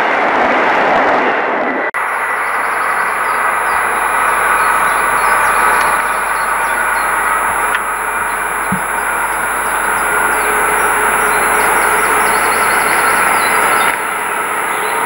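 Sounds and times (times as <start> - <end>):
diesel locomotive engine running: 2.0 - 15.0
wheels rumbling on rail: 2.0 - 15.0.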